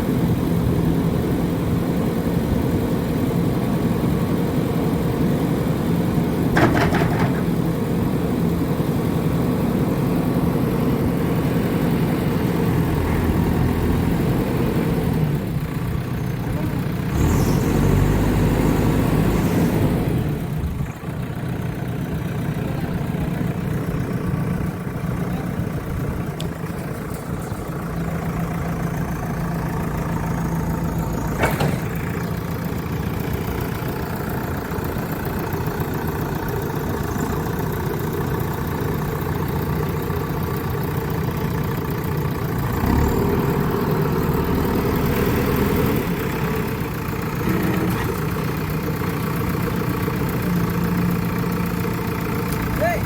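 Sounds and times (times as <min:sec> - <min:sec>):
backhoe diesel engine running: 0:00.0 - 0:53.0.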